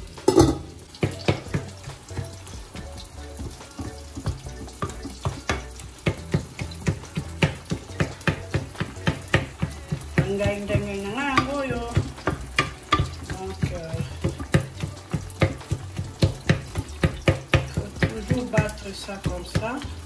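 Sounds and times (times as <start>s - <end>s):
food sizzling: 0.0s - 20.0s
wooden spoon knocking metal pot: 0.0s - 20.0s.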